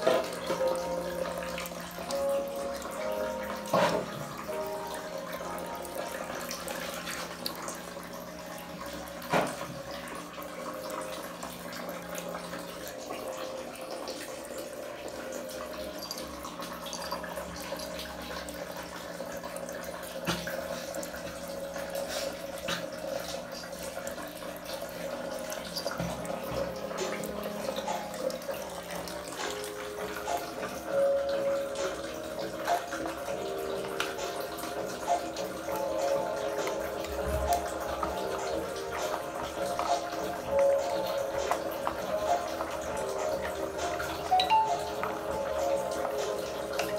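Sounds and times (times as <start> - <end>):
water running and splashing: 0.0 - 46.9.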